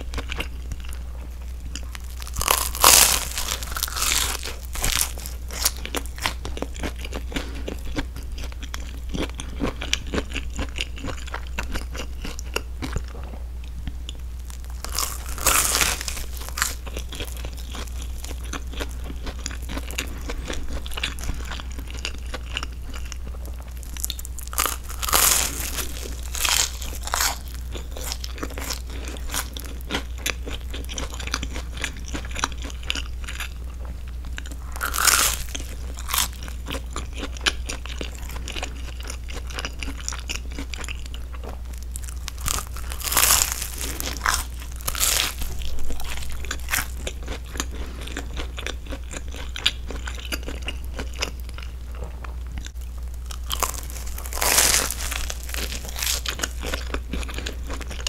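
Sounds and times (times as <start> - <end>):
chewing crunchy toasted sandwich: 0.0 - 58.0
steady low hum: 0.0 - 58.0.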